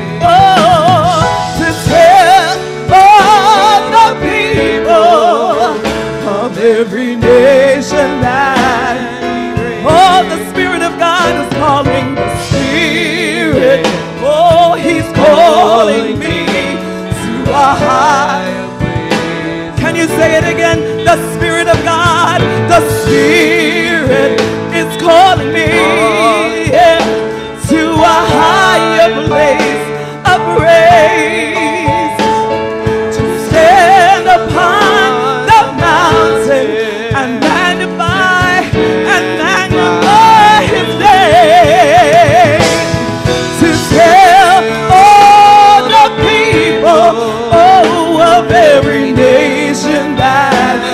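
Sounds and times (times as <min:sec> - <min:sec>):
electric guitar accompaniment: 0:00.0 - 0:50.9
woman singing gospel song: 0:00.0 - 0:50.9.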